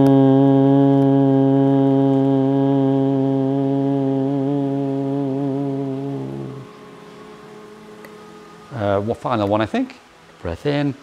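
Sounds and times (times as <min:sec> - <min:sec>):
voices holding low oo tone: 0:00.0 - 0:10.5.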